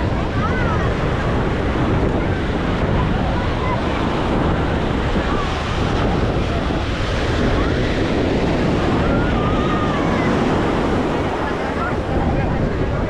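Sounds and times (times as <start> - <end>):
faint voices: 0.0 - 13.0
ocean surf washing on beach: 0.0 - 13.0
wind buffeting microphone: 0.0 - 13.0.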